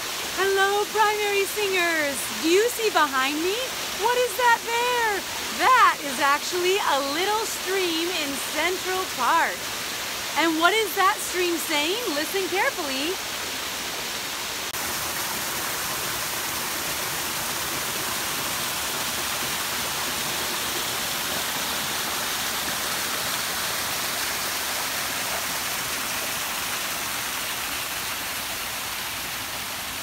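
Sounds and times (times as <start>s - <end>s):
stream splashing down rocks: 0.0s - 30.0s.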